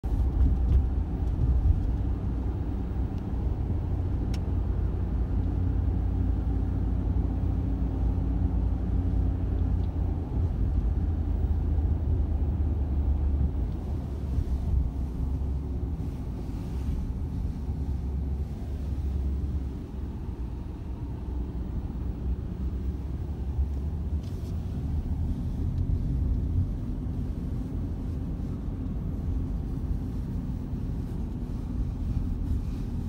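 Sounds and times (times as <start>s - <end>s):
car road noise rumble: 0.0s - 33.0s.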